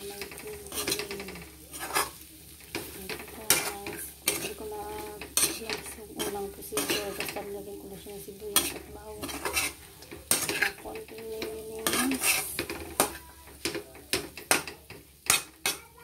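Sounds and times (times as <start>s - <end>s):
metal spatula scraping a wok: 0.0s - 16.0s.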